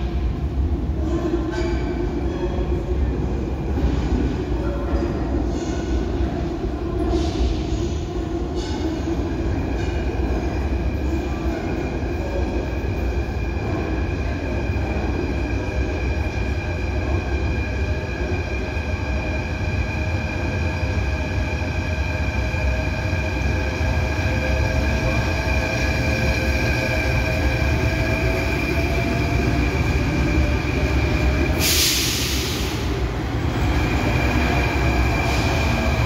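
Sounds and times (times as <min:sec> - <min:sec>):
metro train rumble: 0:00.0 - 0:36.0
high-pitched train whine: 0:05.5 - 0:36.0.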